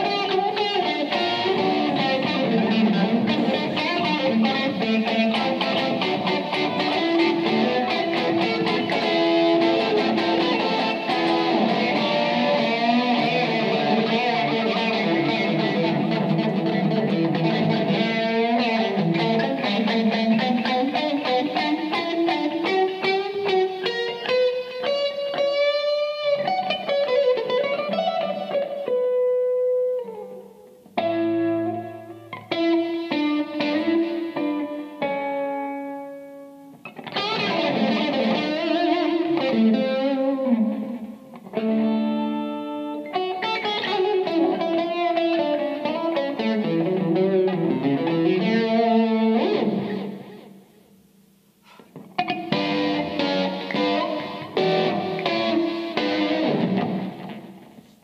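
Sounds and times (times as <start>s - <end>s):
electric guitar solo: 0.0s - 58.0s.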